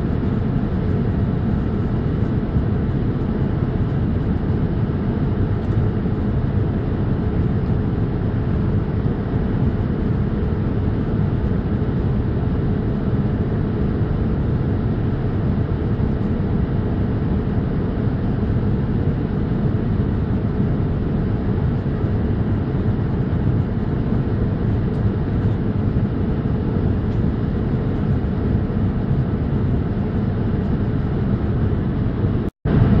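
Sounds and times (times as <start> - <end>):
airliner cabin rumble: 0.0 - 33.0.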